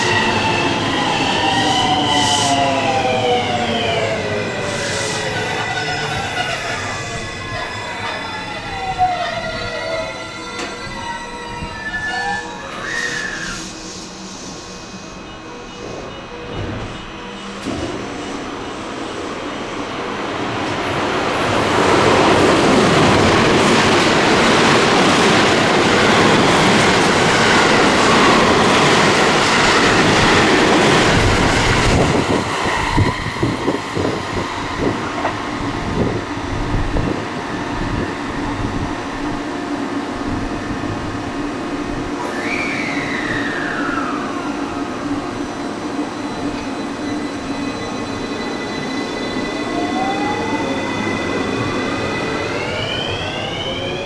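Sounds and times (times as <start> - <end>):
train wheels rushing on rail: 0.0 - 54.0
train whine: 0.0 - 54.0.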